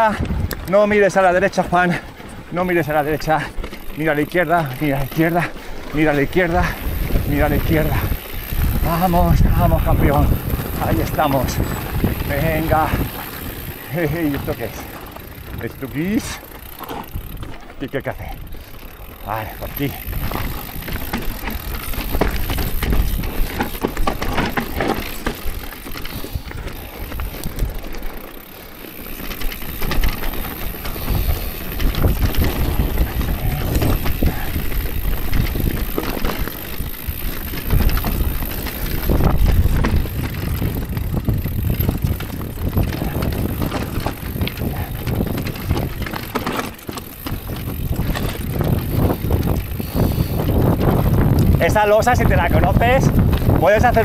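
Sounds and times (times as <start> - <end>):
bike clattering and rattling: 0.0 - 54.0
tyres crunching over stones: 0.0 - 54.0.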